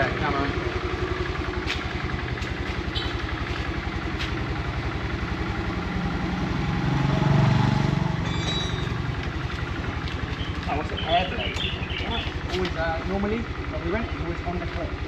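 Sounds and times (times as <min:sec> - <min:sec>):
scooter engine idling: 0:00.0 - 0:06.3, 0:08.2 - 0:15.0.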